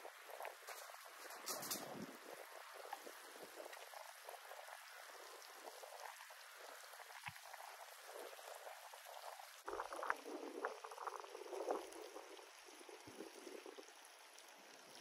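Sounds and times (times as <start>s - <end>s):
small ticks: 0.1s - 15.0s.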